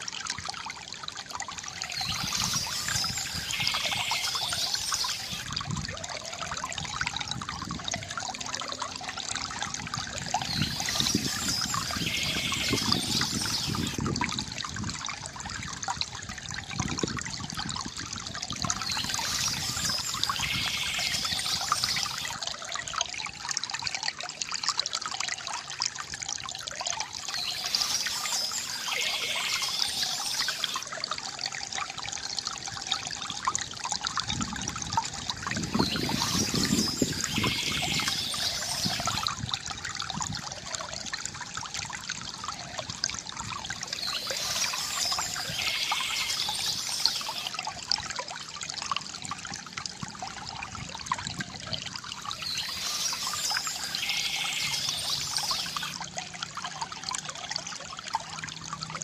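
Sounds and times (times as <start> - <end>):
water trickling into basin: 0.0 - 59.0.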